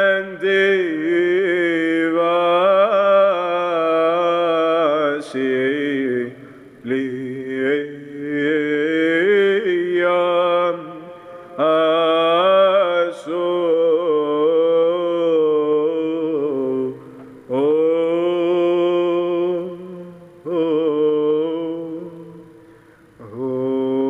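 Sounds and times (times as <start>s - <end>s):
man singing chant: 0.0s - 22.6s, 23.2s - 24.0s.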